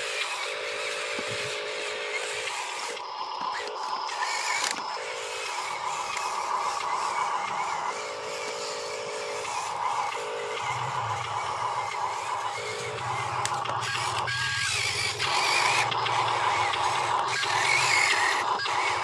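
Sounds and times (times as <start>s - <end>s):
toy truck electric motor whining: 0.0s - 19.0s.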